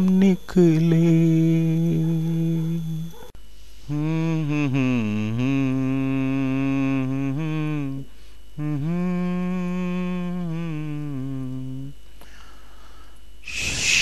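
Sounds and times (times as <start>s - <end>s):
man singing long notes: 0.0s - 3.1s, 3.9s - 12.0s.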